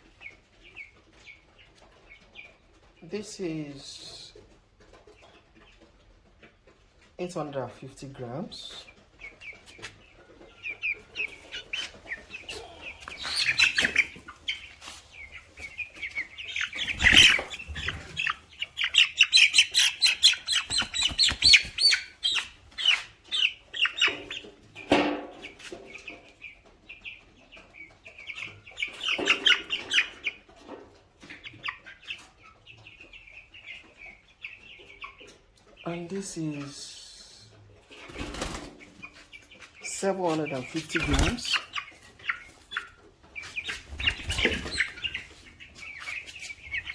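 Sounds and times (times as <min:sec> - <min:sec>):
chickens peeping: 0:00.0 - 0:46.9.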